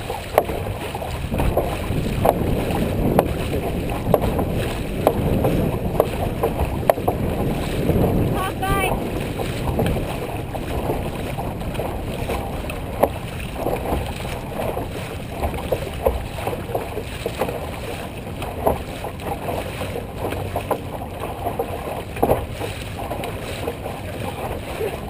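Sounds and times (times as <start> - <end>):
paddles splashing in water: 0.0 - 25.0
wind on microphone: 0.0 - 25.0.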